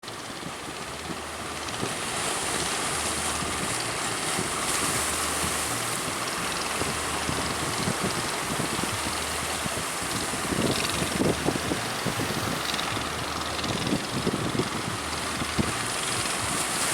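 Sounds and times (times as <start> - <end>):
low hum: 0.0 - 16.9
sea waves: 0.0 - 16.9
wind rushing over microphone: 0.0 - 16.9.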